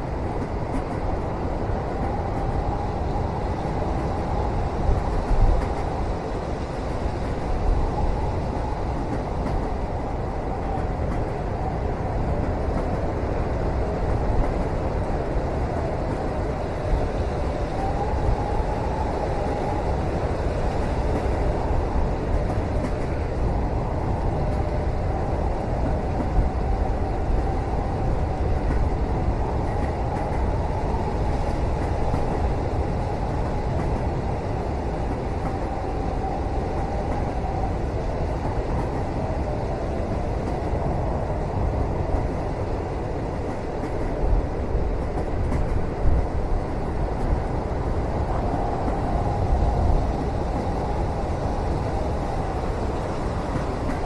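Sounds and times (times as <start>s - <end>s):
train rumble inside cabin: 0.0s - 54.0s.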